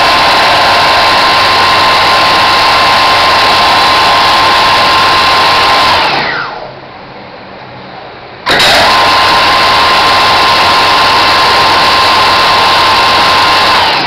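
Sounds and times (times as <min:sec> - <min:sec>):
alternator whining: 0:00.0 - 0:14.0.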